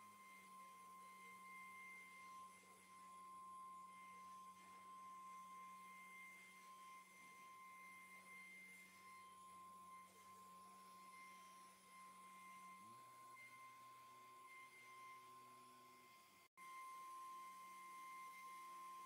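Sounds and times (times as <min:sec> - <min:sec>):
router spindle high whine: 0:00.0 - 0:19.0.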